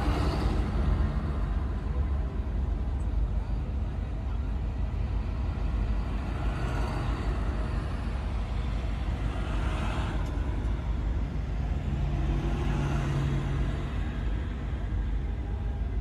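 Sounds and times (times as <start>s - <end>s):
tractor engines rumbling: 0.0s - 16.0s.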